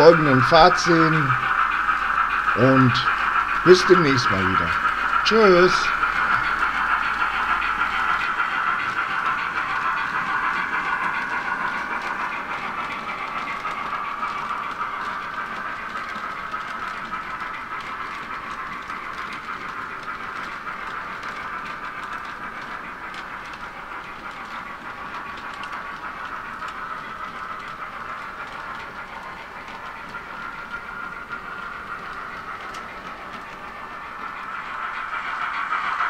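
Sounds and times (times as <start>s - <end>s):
model train wagons rolling: 0.0s - 36.0s.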